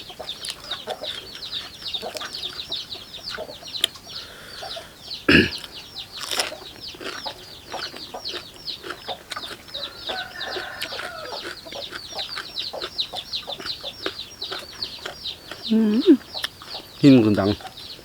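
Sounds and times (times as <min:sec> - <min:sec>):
chicks peeping: 0:00.0 - 0:18.0
crunchy chewing clicks: 0:00.2 - 0:04.1, 0:05.2 - 0:18.0.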